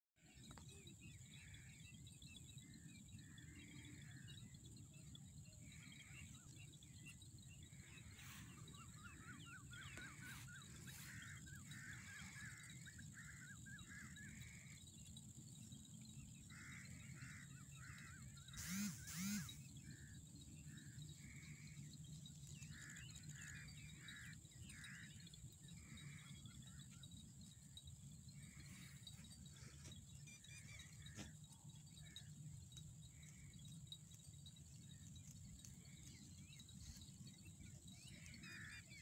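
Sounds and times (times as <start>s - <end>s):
small birds chirping: 0.2s - 39.0s.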